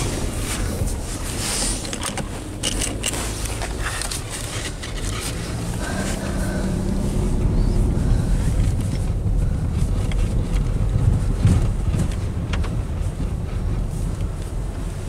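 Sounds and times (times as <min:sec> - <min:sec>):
low engine hum: 0:00.0 - 0:15.0
scraping handling noises: 0:00.0 - 0:15.0.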